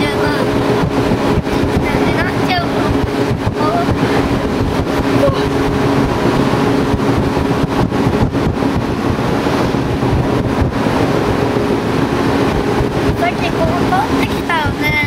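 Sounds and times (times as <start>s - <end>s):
steady hum: 0.0s - 15.0s
train running gear rumble: 0.0s - 15.0s.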